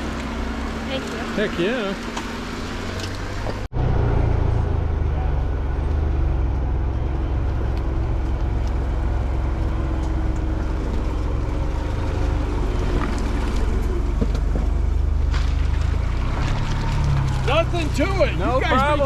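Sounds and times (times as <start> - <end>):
off-road vehicle engine rumbling: 0.0 - 19.0.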